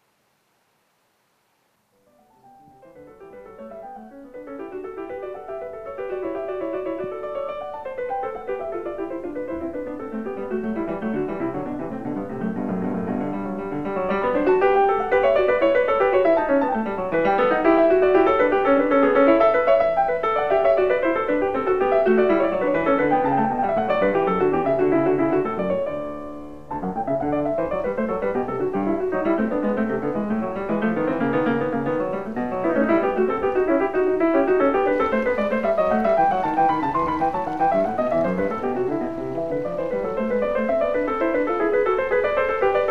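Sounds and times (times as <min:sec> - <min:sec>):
piano music with rolling runs: 0:02.0 - 0:42.9.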